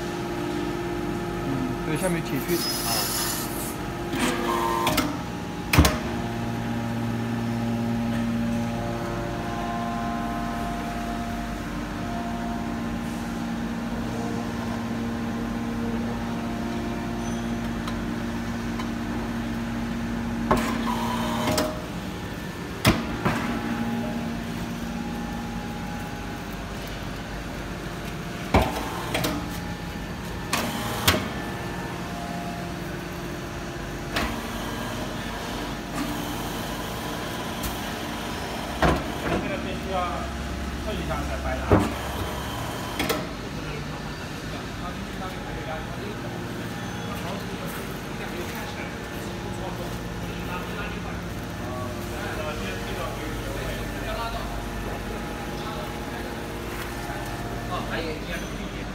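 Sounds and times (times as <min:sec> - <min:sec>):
hydraulic pump hum: 0:00.0 - 0:58.3.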